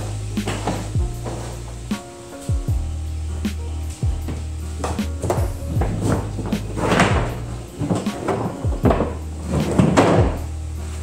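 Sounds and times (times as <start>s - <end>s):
music with deep bass and heavy beat: 0.0s - 11.0s.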